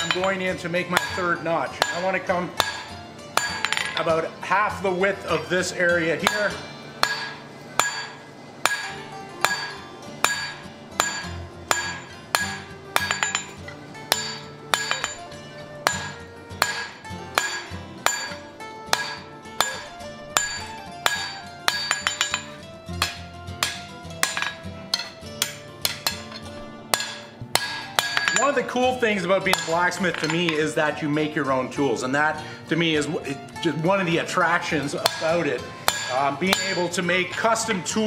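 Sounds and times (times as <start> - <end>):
hammer striking hot steel on anvil: 0.0 - 4.2, 6.2 - 30.7, 34.6 - 37.8
background music: 0.0 - 38.0.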